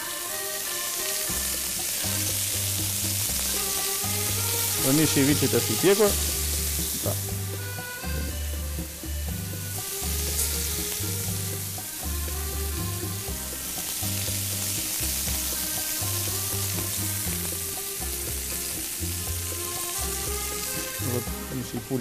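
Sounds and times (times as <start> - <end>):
background music with bass: 0.0 - 22.0
meat sizzling on griddle: 0.0 - 22.0.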